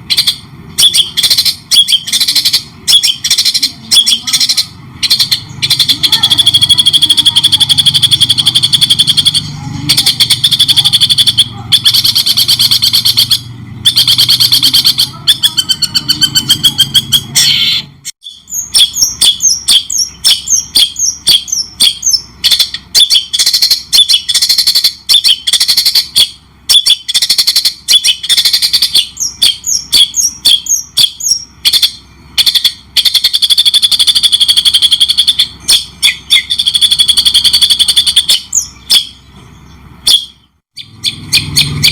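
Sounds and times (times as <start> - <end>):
bird singing chattering phrases: 0.0 - 41.9.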